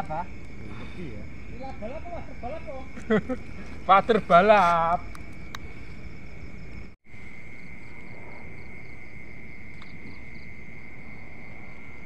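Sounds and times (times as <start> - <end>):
insect high trill: 0.0 - 12.0
pulsing insect chirp: 0.0 - 12.0.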